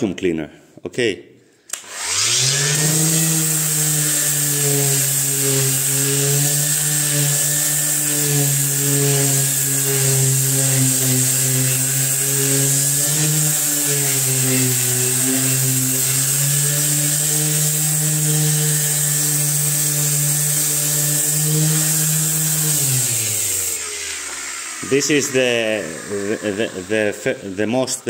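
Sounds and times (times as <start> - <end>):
electric sander running: 1.8 - 28.0.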